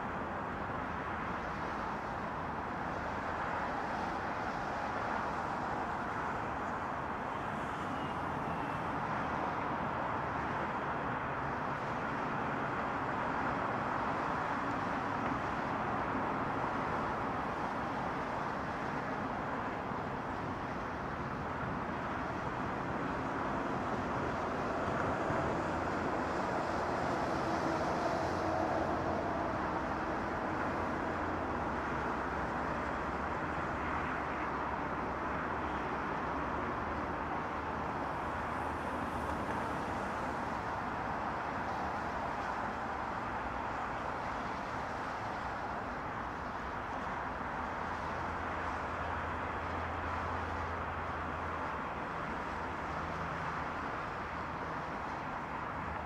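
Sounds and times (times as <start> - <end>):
highway traffic rush: 0.0 - 56.0.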